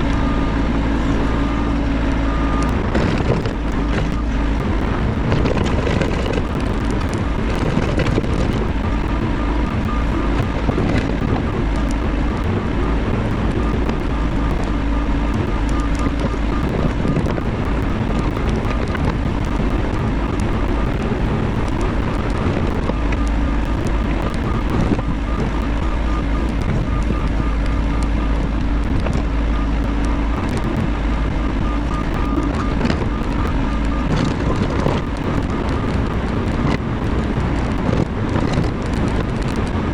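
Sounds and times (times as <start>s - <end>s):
faint repeating high tone: 0.0s - 36.9s
excavator diesel engine running: 0.0s - 39.9s.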